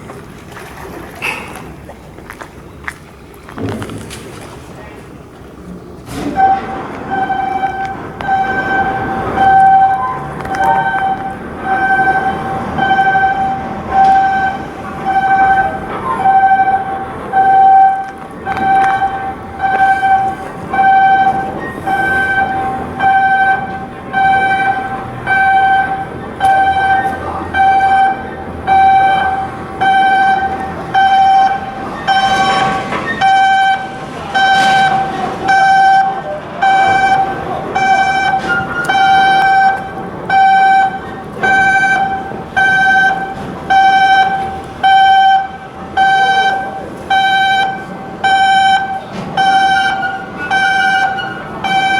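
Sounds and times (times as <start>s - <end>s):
electronic warning beeps: 6.1s - 51.9s.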